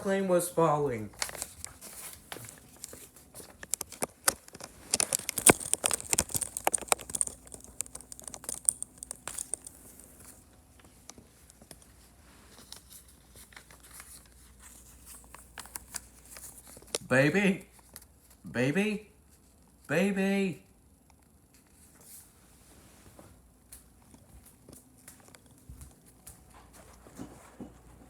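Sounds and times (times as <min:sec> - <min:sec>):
rustling and crinkling: 0:00.9 - 0:18.5, 0:21.2 - 0:28.0.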